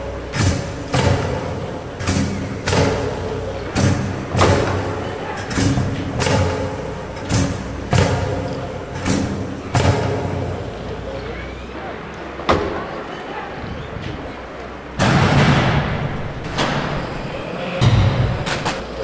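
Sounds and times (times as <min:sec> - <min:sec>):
heavy rhythmic thuds ringing: 0:00.0 - 0:13.4, 0:14.2 - 0:19.0
steady low hum: 0:00.0 - 0:19.0.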